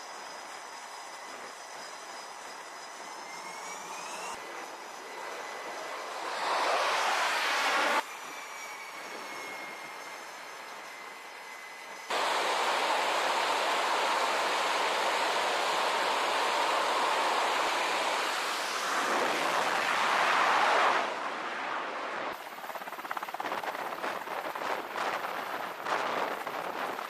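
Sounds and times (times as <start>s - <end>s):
jet engines roaring: 0.0s - 27.0s
helicopter rotor chopping: 0.1s - 21.2s, 22.3s - 27.0s.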